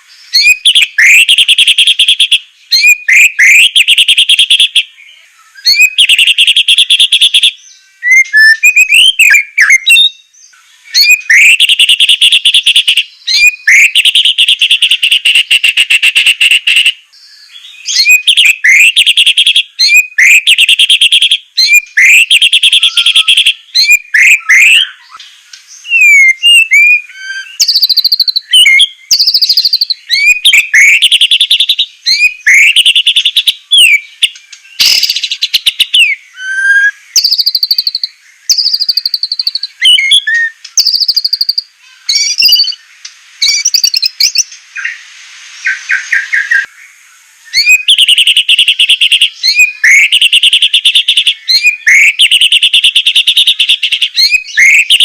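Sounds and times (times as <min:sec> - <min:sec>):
bird singing trills and whistles: 0:00.0 - 0:42.8, 0:43.4 - 0:45.0, 0:47.4 - 0:55.0.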